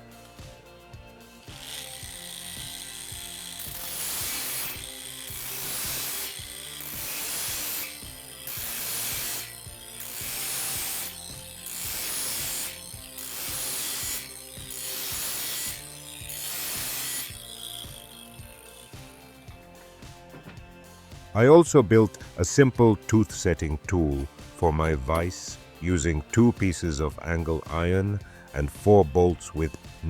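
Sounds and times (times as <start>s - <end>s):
angle grinder grinding metal: 0.0s - 30.0s
quiet background music: 0.0s - 30.0s.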